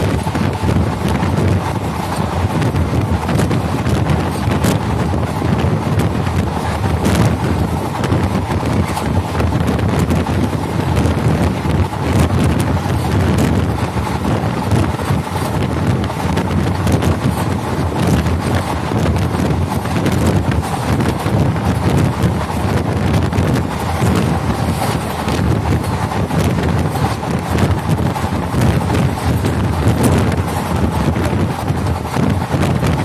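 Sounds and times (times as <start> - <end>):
sharp track clicks: 0.0 - 33.0
train wheels rumbling on rails: 0.0 - 33.0
wind buffeting microphone: 0.0 - 33.0.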